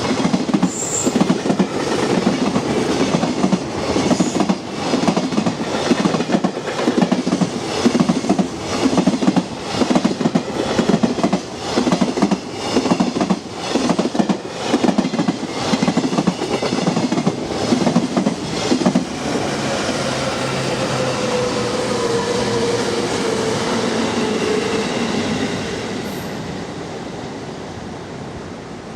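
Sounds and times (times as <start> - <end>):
train wheels clacking on rails: 0.0 - 26.4.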